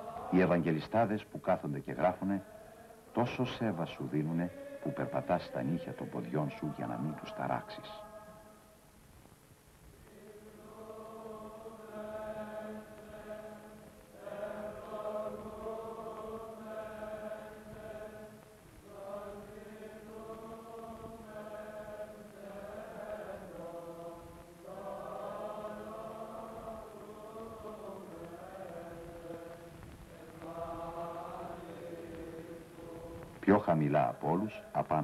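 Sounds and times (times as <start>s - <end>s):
voices chanting slow melody: 0.0s - 8.8s, 9.9s - 35.0s.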